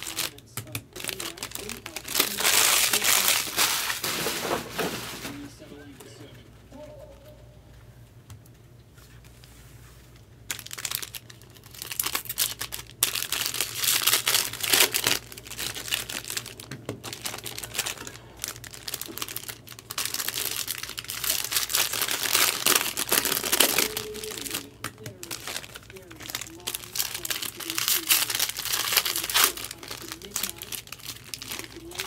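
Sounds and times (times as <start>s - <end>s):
plastic wrapping crinkling and tearing: 0.0s - 5.6s, 10.0s - 32.0s.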